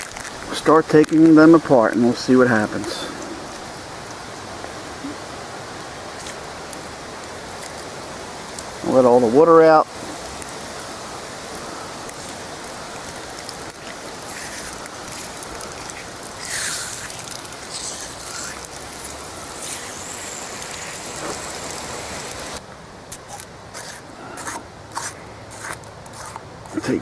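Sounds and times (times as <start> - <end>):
water rushing from hose: 0.0 - 27.0.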